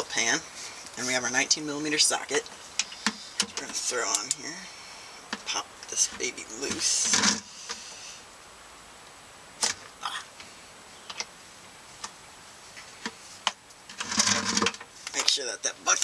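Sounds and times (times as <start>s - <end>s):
rustling: 0.0s - 8.5s, 9.6s - 16.0s.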